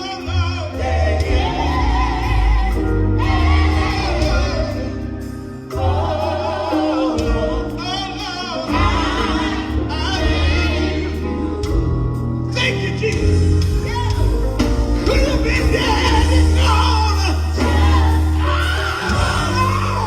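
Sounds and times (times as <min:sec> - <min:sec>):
bass line: 0:00.0 - 0:20.0
gospel singing over band: 0:00.0 - 0:20.0.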